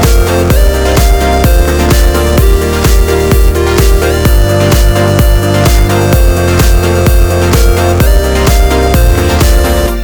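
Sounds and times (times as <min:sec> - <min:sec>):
electronic dance music: 0:00.0 - 0:10.0
kick drum beat: 0:00.0 - 0:10.0.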